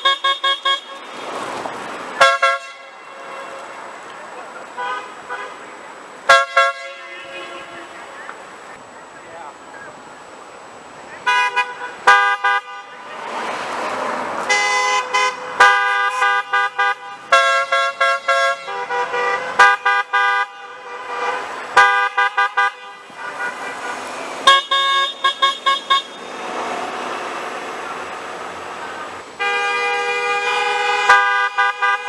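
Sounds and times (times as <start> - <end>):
car horns honking: 0.0 - 10.0, 11.2 - 32.0
passing cars: 0.0 - 32.0.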